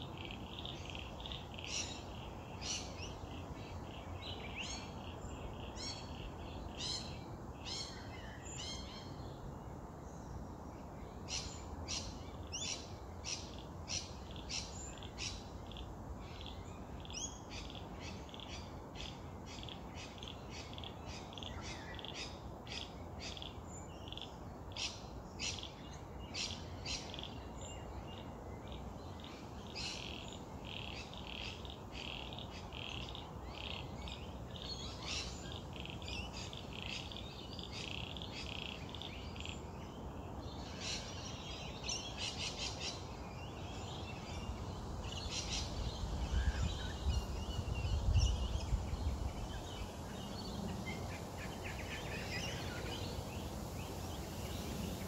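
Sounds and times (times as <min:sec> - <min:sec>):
low background hiss: 0:00.0 - 0:55.0.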